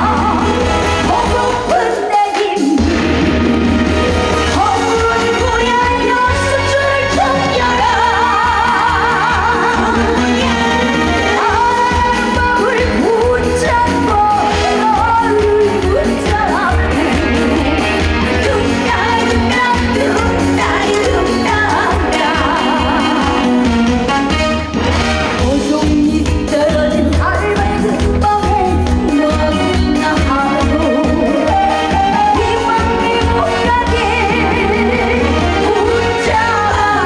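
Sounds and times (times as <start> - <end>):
woman singing with vibrato: 0.0 - 24.4, 25.3 - 37.0
upbeat backing band: 0.0 - 37.0.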